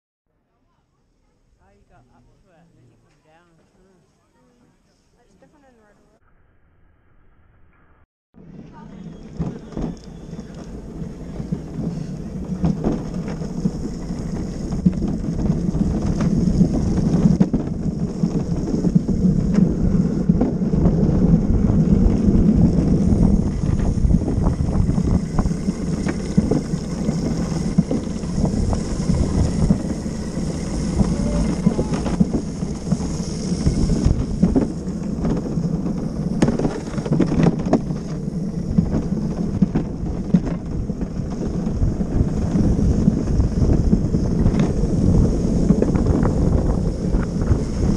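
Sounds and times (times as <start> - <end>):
cart knocking over bumps: 8.4 - 47.9
cart wheels rumbling on concrete: 8.4 - 47.9
wind buffeting microphone: 8.4 - 47.9.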